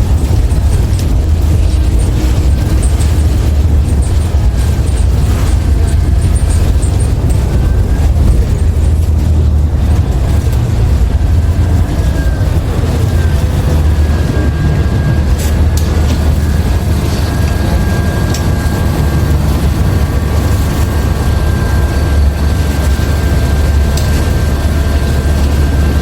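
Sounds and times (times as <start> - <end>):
bus engine low rumble: 0.0 - 26.0.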